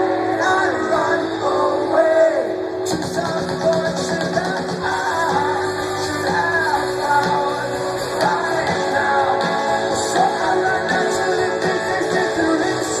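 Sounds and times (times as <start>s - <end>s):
person singing: 0.0s - 13.0s
rock band playing live: 0.0s - 13.0s.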